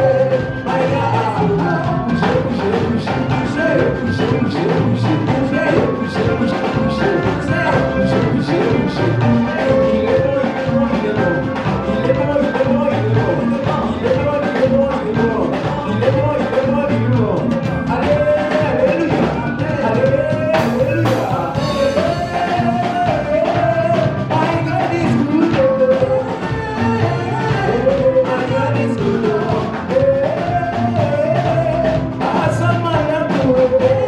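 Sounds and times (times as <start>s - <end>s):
driving drum beat: 0.0s - 34.0s
upbeat worship music: 0.0s - 34.0s.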